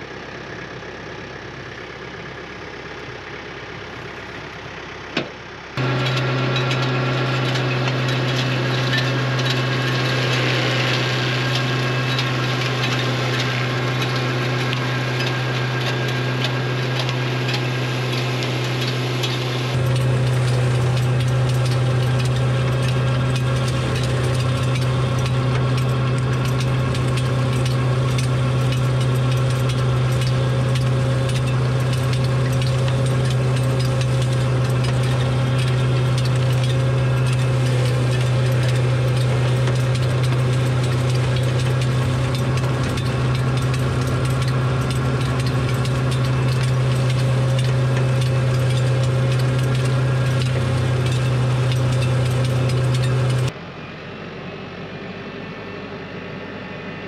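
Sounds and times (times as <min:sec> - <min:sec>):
engine droning steadily: 0:00.0 - 0:57.0.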